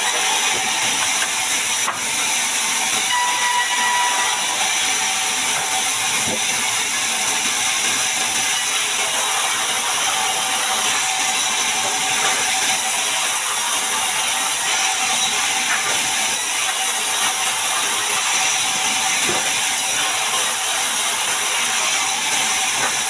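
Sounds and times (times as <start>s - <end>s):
band saw cutting log: 0.0s - 23.0s.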